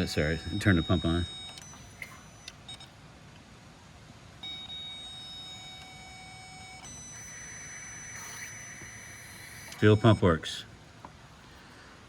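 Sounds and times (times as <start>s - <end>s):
electric fuel pump whining: 0.0s - 3.0s, 4.4s - 12.0s.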